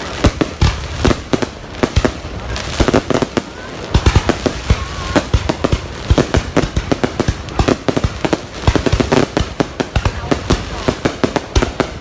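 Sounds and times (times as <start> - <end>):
fireworks banging and crackling: 0.0 - 12.0.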